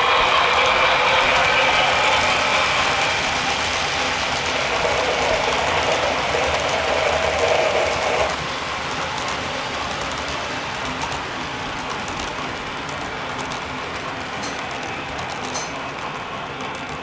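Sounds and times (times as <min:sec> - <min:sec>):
model train motor whirring: 0:00.0 - 0:17.0
train wheels on rails: 0:00.0 - 0:17.0.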